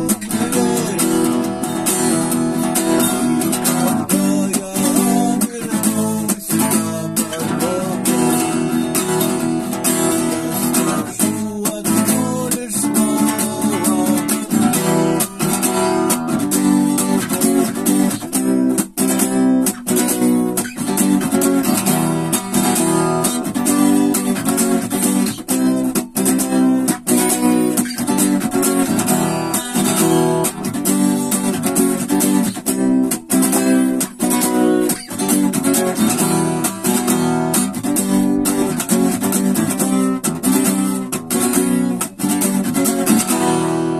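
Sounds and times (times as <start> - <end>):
acoustic guitar strumming: 0.0 - 43.9.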